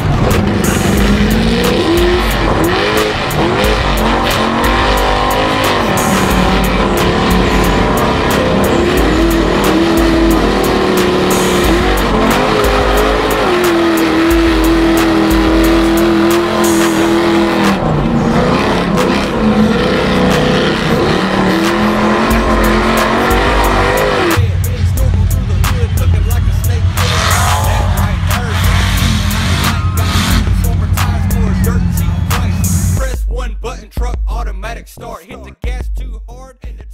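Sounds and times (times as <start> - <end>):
truck engine revving: 0.0 - 35.6
music with steady beat: 0.0 - 36.9.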